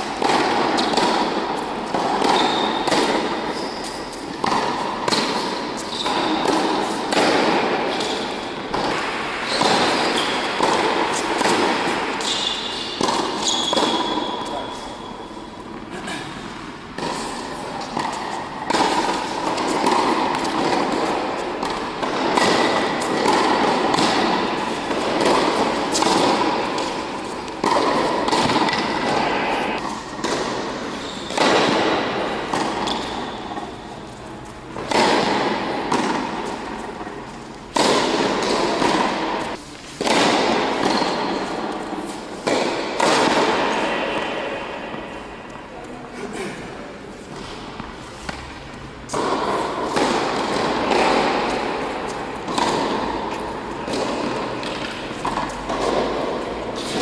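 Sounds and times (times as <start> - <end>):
tennis ball hits echoing: 0.0 - 3.6, 4.3 - 15.2, 16.9 - 45.7, 47.4 - 57.0.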